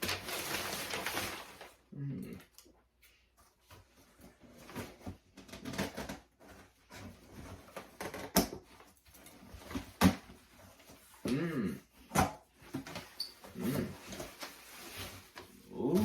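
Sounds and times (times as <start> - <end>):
packaging rustling and scraping: 0.0 - 1.8, 3.7 - 11.3, 12.5 - 16.0.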